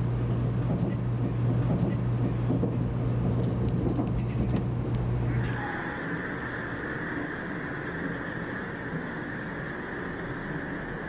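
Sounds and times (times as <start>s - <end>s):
train cabin hum and rumble: 0.0s - 11.0s.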